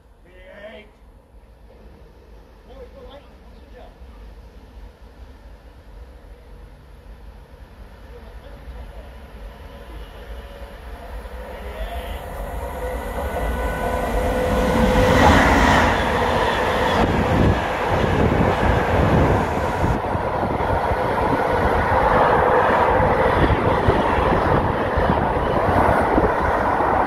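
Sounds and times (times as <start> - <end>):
freight train passing: 0.0 - 27.0.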